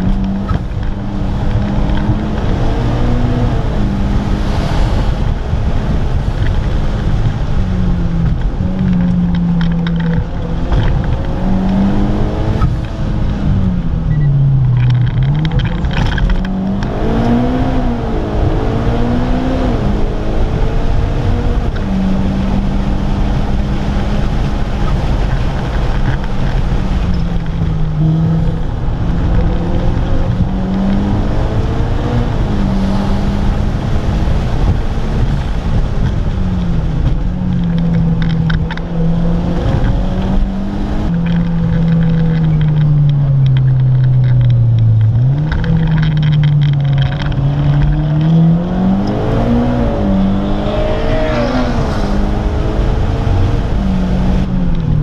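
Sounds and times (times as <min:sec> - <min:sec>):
car engine revving on track: 0:00.0 - 0:55.0
road and wind noise: 0:00.0 - 0:55.0.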